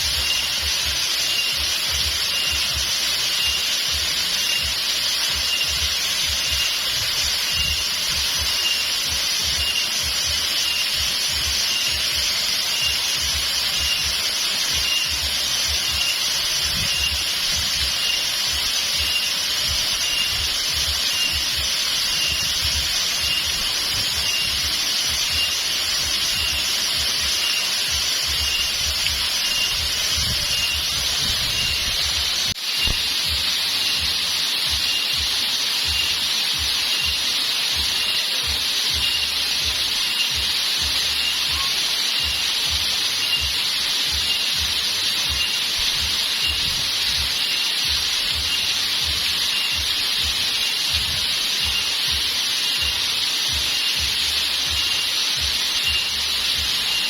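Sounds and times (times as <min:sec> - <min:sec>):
high thin insect chirp: 0:00.0 - 0:57.0
waterfall rushing: 0:00.0 - 0:57.0.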